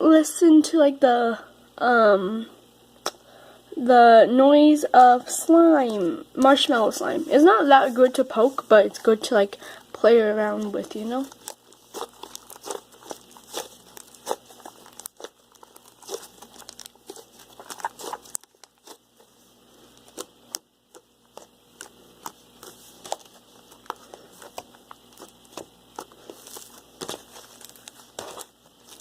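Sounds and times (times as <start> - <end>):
faint crinkle: 5.2 - 29.0.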